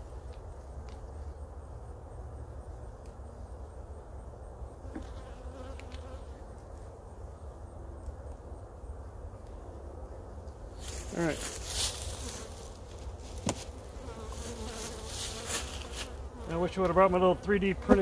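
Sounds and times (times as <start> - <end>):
honey bees buzzing: 1.2 - 8.2, 8.9 - 18.0.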